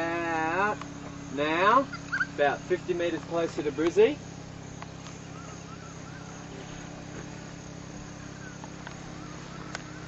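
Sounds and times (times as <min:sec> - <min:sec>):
outdoor background hum: 0:00.0 - 0:10.0.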